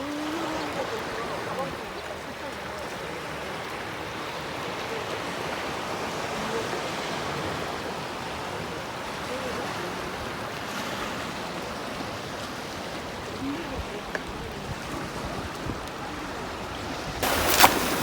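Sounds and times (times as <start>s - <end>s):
surf washing on beach: 0.0s - 18.0s.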